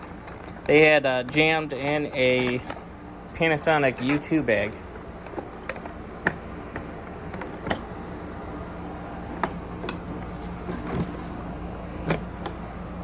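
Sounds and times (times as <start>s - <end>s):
handling clicks and knocks: 0.0s - 7.9s, 9.4s - 12.6s.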